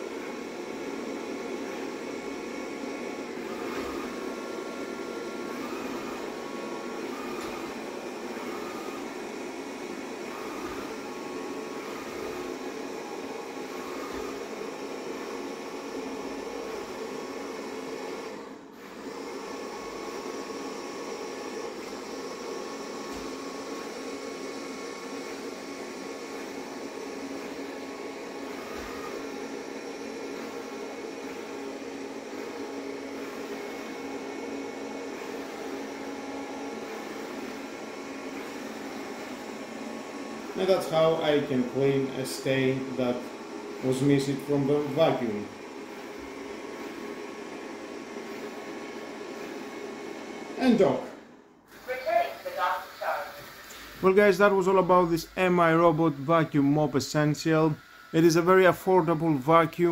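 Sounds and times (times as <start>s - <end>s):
robot vacuum whirring: 0.1s - 59.9s.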